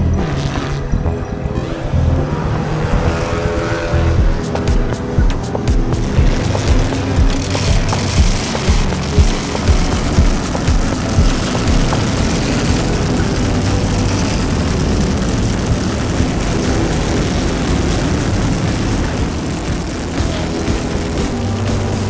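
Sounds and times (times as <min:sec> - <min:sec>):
racing car engine running: 0:00.0 - 0:22.0.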